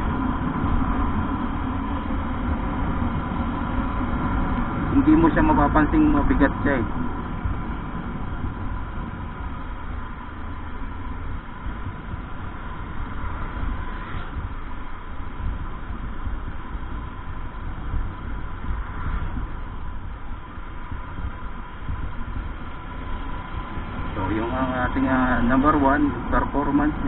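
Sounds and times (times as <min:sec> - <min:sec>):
motorcycle engine running: 0:00.0 - 0:27.0
wind rumble on microphone: 0:00.0 - 0:27.0.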